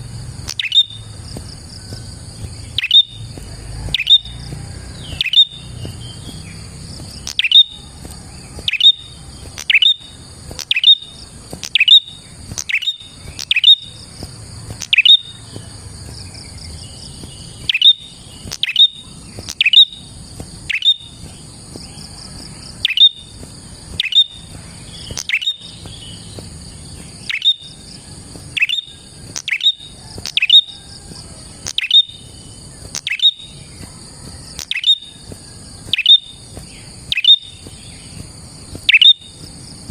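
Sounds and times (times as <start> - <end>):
bird calling with sharp chirps: 0.0 - 39.6
high insect drone: 0.0 - 39.9.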